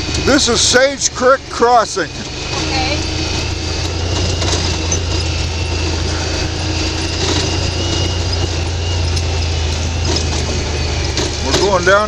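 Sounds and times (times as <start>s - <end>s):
utv engine droning: 0.0s - 12.0s.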